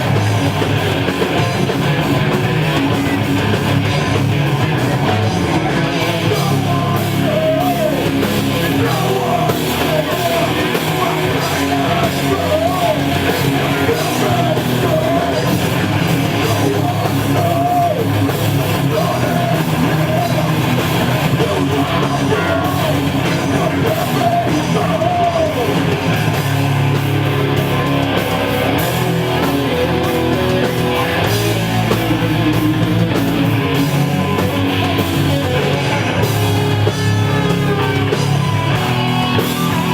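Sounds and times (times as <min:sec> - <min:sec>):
heavy metal band playing: 0:00.0 - 0:39.9
wavering lead guitar line: 0:00.0 - 0:39.9.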